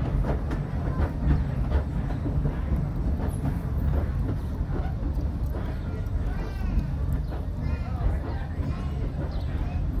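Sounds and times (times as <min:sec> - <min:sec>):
train rolling low rumble: 0:00.0 - 0:10.0.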